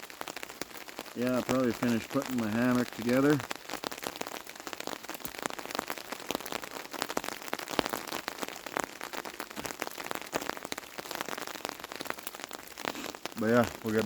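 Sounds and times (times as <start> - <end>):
raindrops striking: 0.0 - 14.0.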